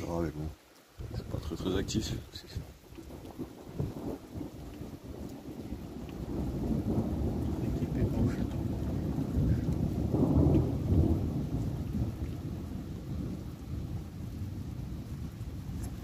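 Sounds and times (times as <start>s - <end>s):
thunder rumbling: 1.0s - 16.0s.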